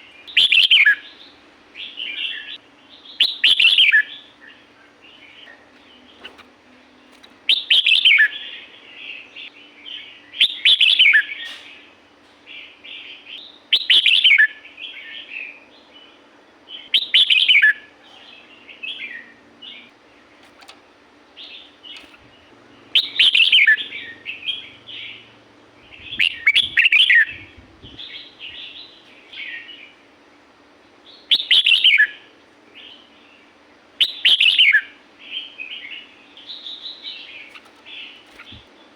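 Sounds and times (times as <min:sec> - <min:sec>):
bird singing bright phrases: 0:00.0 - 0:30.4, 0:31.0 - 0:38.9.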